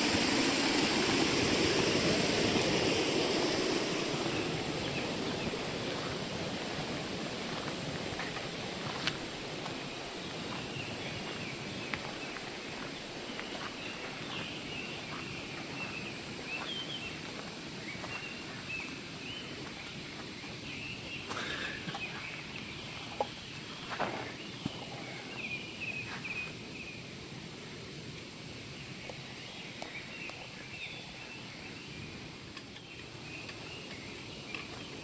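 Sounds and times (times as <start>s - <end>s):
rushing background hiss: 0.0s - 35.0s
small birds chirping: 2.5s - 27.8s, 28.7s - 35.0s.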